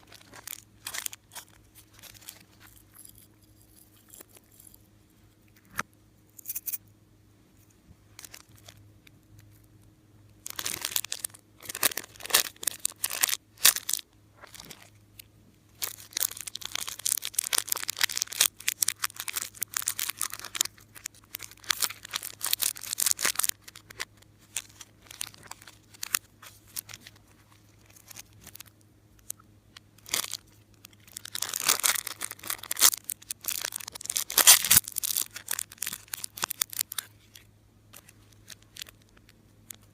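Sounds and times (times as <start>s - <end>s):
crinkly crackling slime handling: 0.0s - 4.8s, 8.2s - 9.6s, 10.3s - 39.9s.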